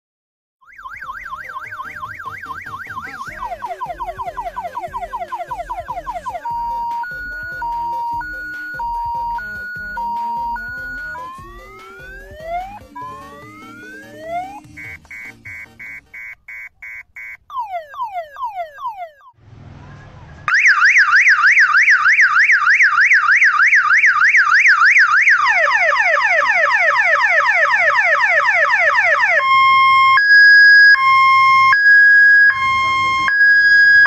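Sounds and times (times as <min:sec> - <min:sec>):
electronic siren switching tones: 0:00.6 - 0:19.4, 0:20.4 - 0:34.0.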